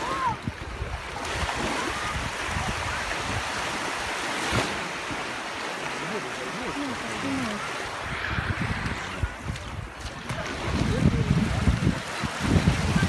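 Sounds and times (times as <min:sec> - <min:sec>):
small waves washing ashore: 0:00.0 - 0:13.0.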